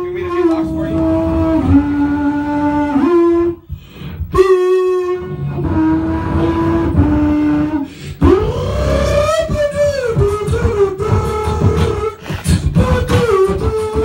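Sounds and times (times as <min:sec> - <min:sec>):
beatboxing held vocal notes: 0:00.0 - 0:14.0
low rhythmic beat: 0:00.0 - 0:14.0.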